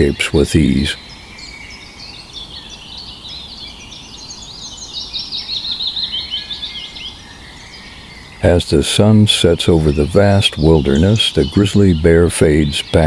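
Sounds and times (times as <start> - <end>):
birds singing and chirping: 0.0 - 13.0
outdoor background hiss: 0.0 - 13.0.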